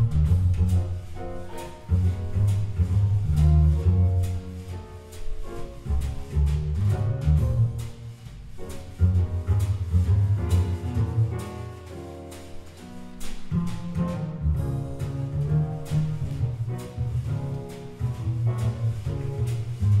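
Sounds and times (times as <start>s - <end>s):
double bass playing low notes: 0.0s - 20.0s.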